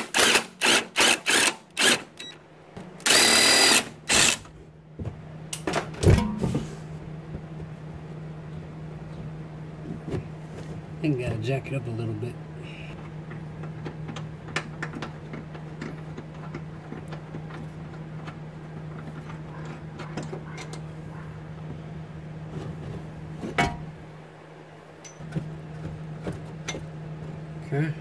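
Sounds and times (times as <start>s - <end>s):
steady low hum: 0.3s - 28.0s.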